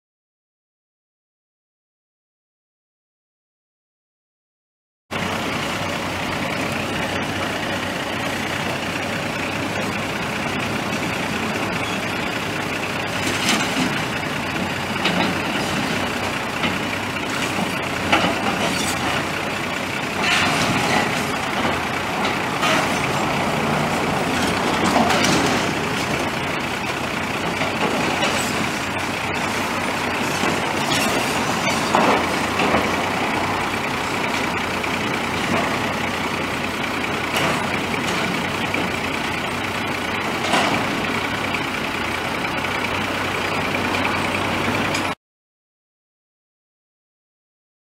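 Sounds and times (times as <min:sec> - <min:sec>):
excavator diesel engine running: 0:05.1 - 0:45.2.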